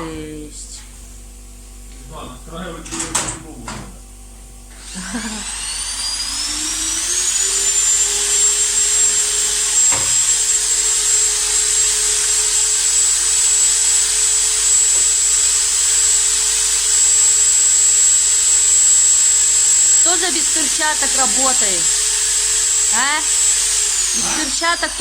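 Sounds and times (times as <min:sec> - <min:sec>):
power tool motor whining: 0:04.7 - 0:25.0.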